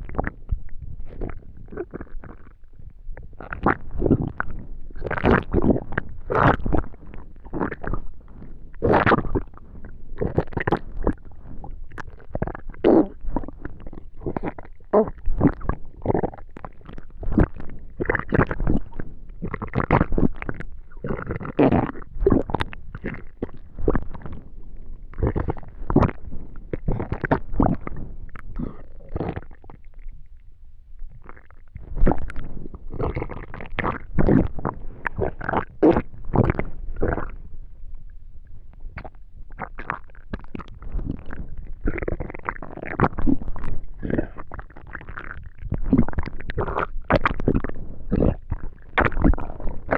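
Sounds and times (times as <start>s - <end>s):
stomach gurgling and rumbling: 0.0s - 49.9s.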